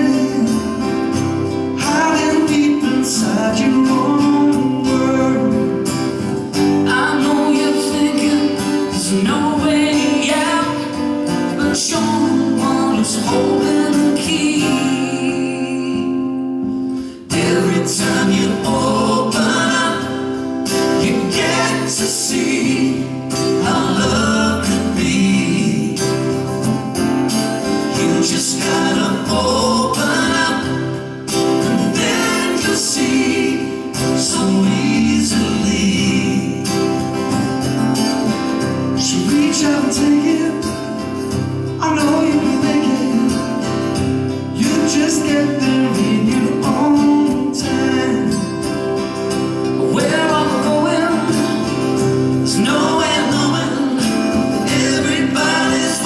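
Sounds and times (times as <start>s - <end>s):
men singing: 0.0s - 26.6s, 27.6s - 56.0s
acoustic guitars: 0.0s - 56.0s.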